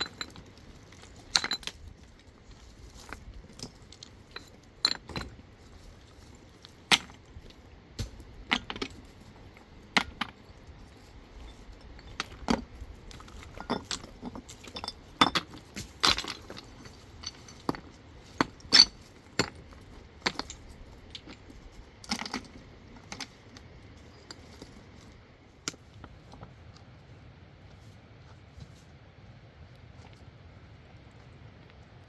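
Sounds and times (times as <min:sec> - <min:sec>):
stones clinking together: 0:00.0 - 0:26.4.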